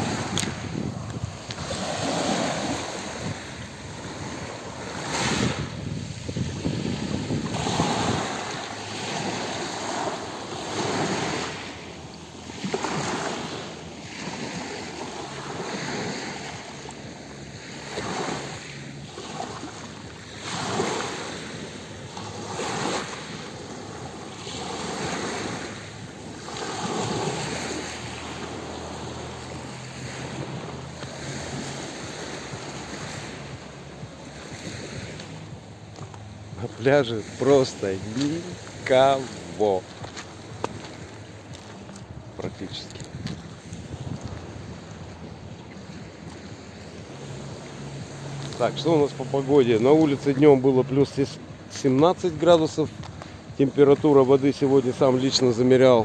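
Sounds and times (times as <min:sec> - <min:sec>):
waves breaking on pebble beach: 0:00.0 - 0:56.0.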